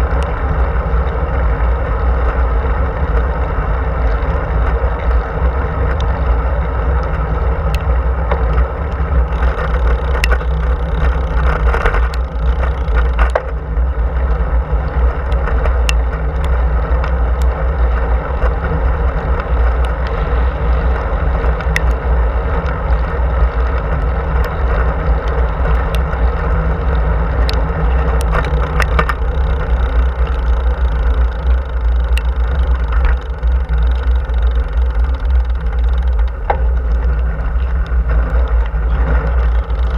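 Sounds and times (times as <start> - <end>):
small clicks and rattles: 0.0 - 39.9
tyres rolling on asphalt: 0.0 - 39.9
wind rumble on camera: 0.0 - 39.9.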